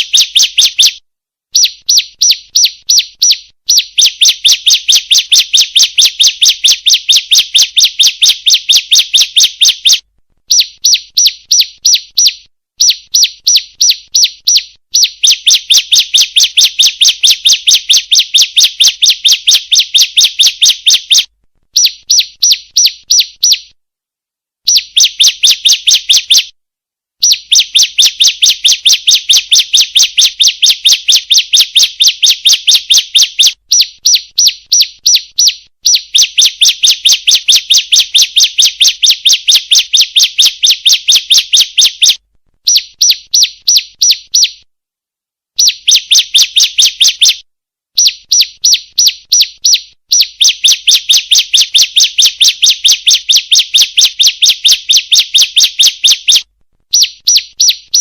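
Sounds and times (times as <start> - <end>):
bird calling sharp high chirps: 0.0 - 23.8, 24.7 - 26.5, 27.2 - 44.6, 45.6 - 47.4, 48.0 - 58.0.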